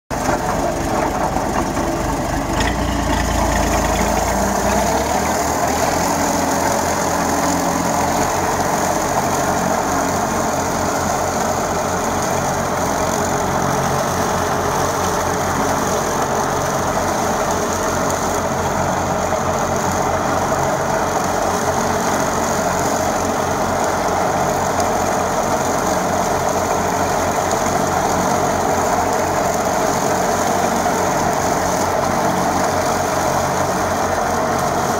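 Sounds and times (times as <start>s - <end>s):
diesel tractor running: 0.1s - 34.9s
rotary mulcher cutting grass: 0.1s - 34.9s.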